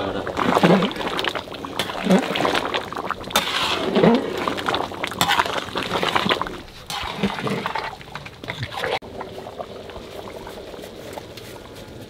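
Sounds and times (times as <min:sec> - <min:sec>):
stew boiling and bubbling: 0:00.0 - 0:12.0
ladle stirring: 0:00.2 - 0:12.0.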